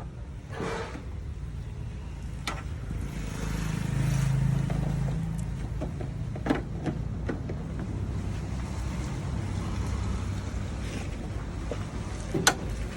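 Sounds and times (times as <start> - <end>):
engine rumbling: 0.0 - 12.9.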